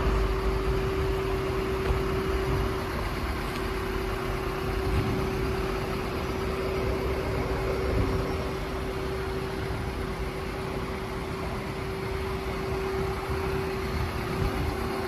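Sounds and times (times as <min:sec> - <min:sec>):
diesel van engine idling: 0:00.0 - 0:15.0.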